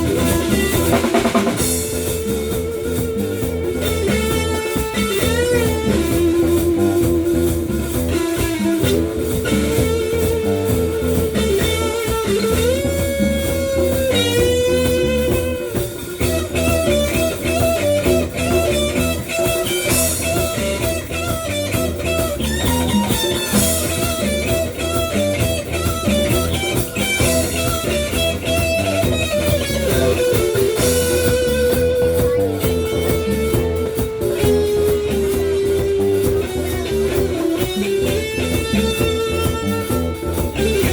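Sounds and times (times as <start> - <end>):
band playing blues-rock: 0.0 - 40.9
electric lead guitar: 0.0 - 40.9.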